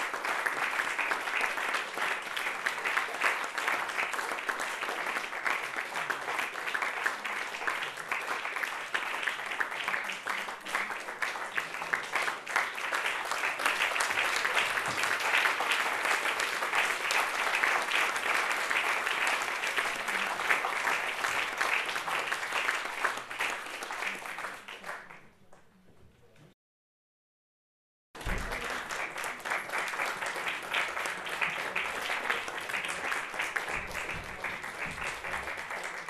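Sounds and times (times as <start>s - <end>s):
audience applauding: 0.0s - 25.4s, 28.2s - 36.0s.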